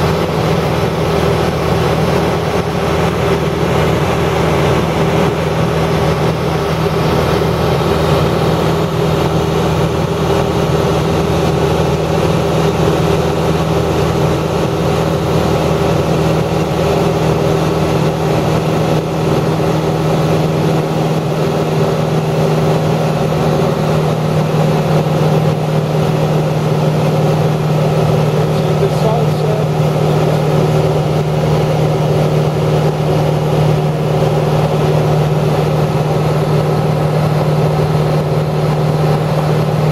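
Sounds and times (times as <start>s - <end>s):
motor running: 0.0s - 39.9s.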